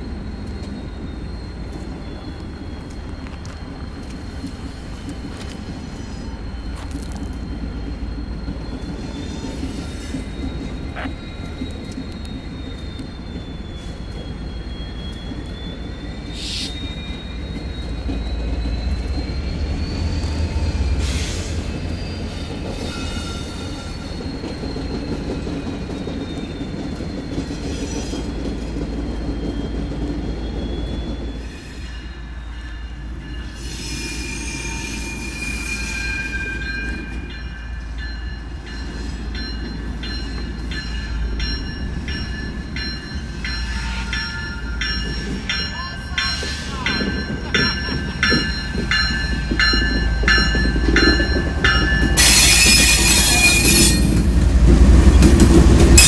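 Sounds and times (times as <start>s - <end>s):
train wheels squealing on rails: 0.0s - 56.0s.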